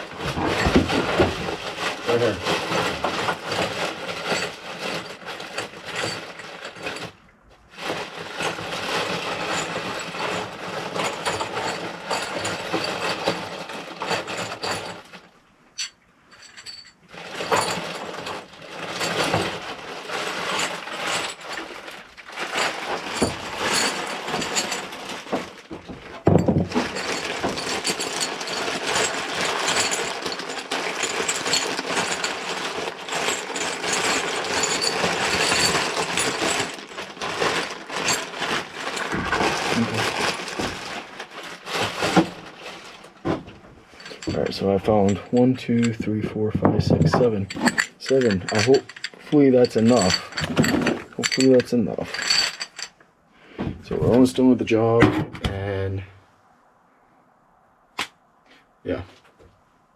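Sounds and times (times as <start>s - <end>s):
small metal parts clattering: 0.0s - 7.2s, 7.8s - 53.0s.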